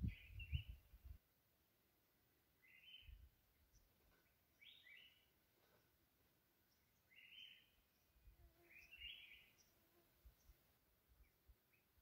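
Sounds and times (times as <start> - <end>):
faint bird chirping: 0.0 - 1.1, 2.5 - 12.0.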